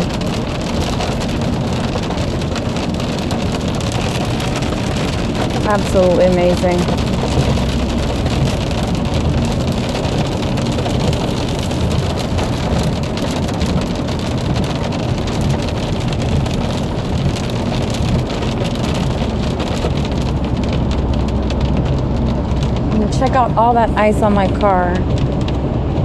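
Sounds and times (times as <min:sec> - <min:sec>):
low rumble: 0:00.0 - 0:26.0
rain and hail on a car: 0:00.0 - 0:26.0.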